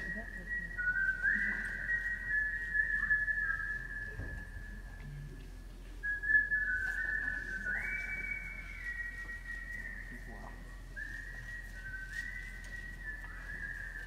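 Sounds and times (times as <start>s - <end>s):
slow whistled melody: 0.0s - 14.0s.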